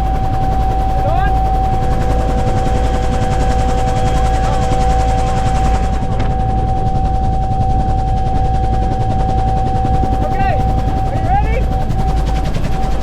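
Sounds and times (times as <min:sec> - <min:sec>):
helicopter rotor beat: 0:00.0 - 0:13.0
turbine whine: 0:00.0 - 0:13.0.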